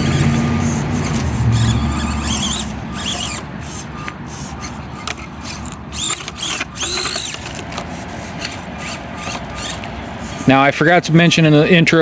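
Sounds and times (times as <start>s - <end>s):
small electric motor whining: 0.0s - 11.9s
toy truck clicking on rocks: 0.0s - 12.0s.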